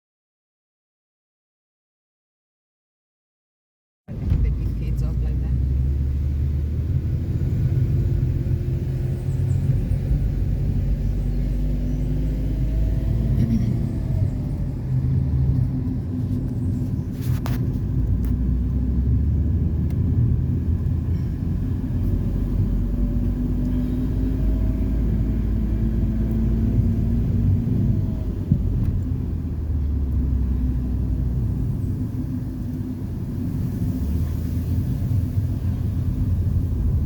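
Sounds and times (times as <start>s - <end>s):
low vehicle rumble: 4.1s - 37.0s.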